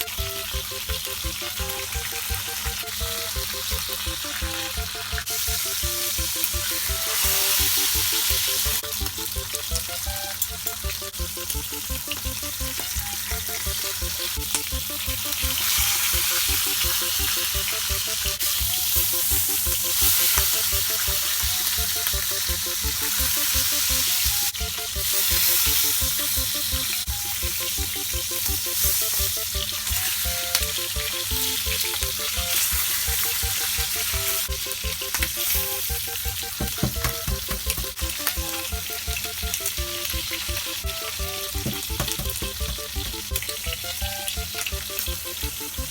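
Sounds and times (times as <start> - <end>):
bacon sizzling in a frying pan: 0.0 - 45.9.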